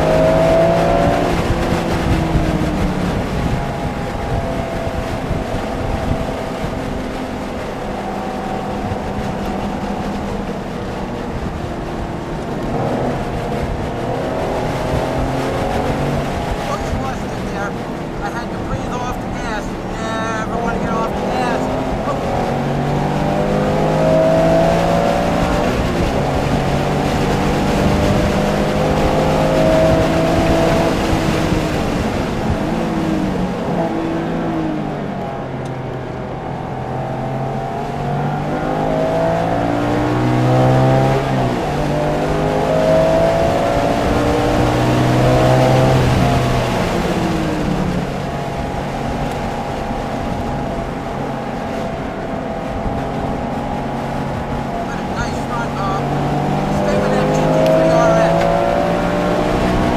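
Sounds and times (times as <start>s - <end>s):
car engine accelerating and braking: 0.0s - 59.9s.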